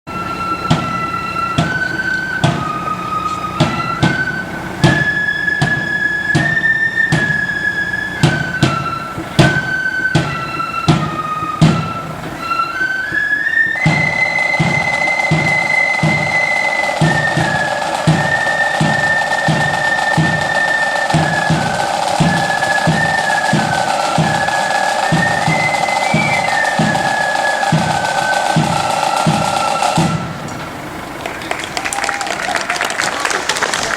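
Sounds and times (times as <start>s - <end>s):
flutes playing melody: 0.0s - 33.9s
snare drums rolling: 0.1s - 33.9s.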